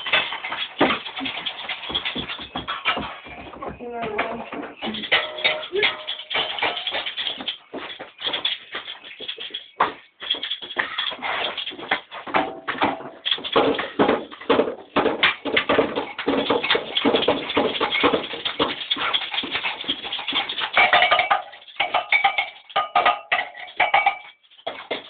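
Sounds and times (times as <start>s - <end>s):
objects struck as percussion: 0.0s - 25.0s.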